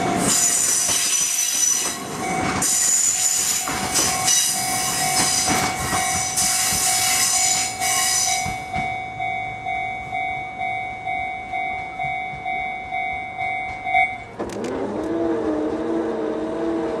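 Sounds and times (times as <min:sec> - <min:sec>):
level crossing warning bell: 0:00.0 - 0:14.4.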